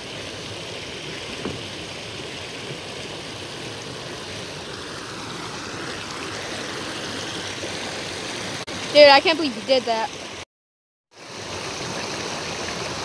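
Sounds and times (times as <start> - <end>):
stream tumbling over rocks: 0.0 - 10.4, 11.2 - 13.0.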